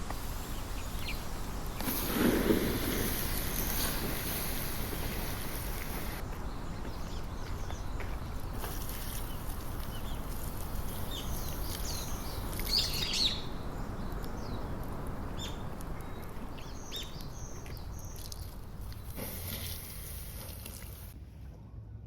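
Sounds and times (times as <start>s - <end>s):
small birds chirping: 0.0s - 21.0s
low outdoor rumble: 0.0s - 22.0s.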